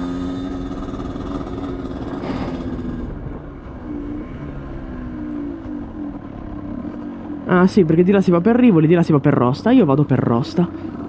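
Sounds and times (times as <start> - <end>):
two-stroke motorbike engine: 0.0 - 7.7, 9.8 - 11.0.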